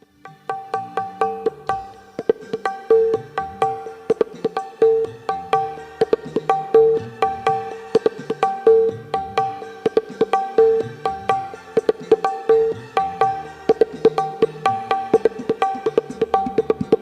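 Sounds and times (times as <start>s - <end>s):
hand drum strokes: 0.4s - 17.0s.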